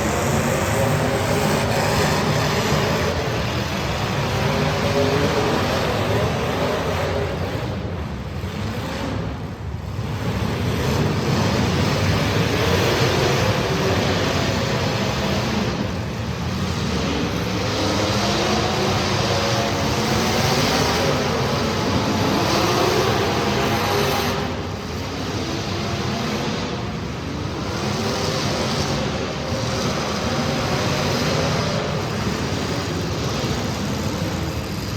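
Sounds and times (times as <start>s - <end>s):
race car engines running hard: 0.0s - 34.9s.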